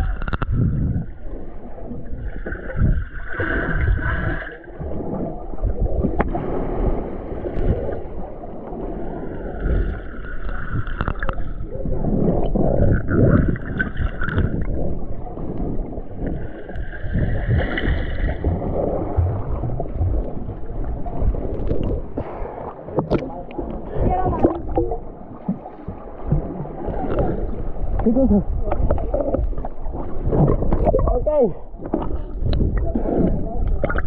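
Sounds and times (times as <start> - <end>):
water gurgling underwater: 0.0 - 34.0.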